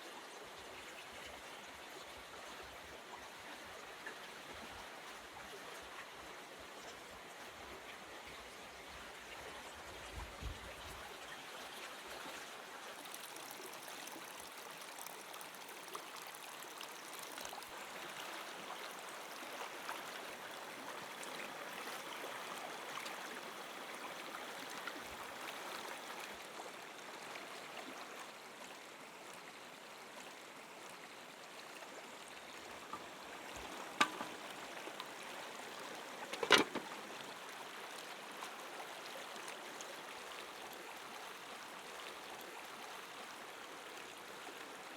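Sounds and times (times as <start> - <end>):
stream flowing: 0.0 - 44.9.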